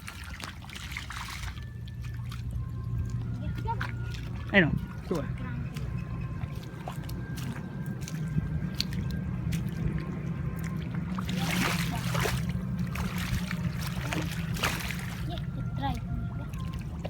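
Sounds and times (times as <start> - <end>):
steady low hum: 0.0 - 17.0
water dripping and splashing: 0.0 - 17.0.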